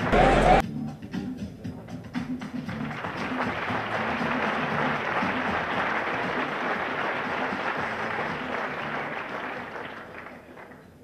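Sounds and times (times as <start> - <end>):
audience applauding: 0.0 - 0.6, 2.7 - 10.9.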